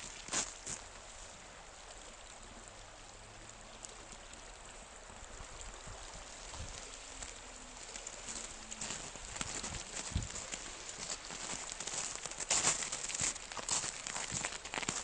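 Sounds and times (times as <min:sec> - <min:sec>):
river flowing: 0:00.0 - 0:15.0.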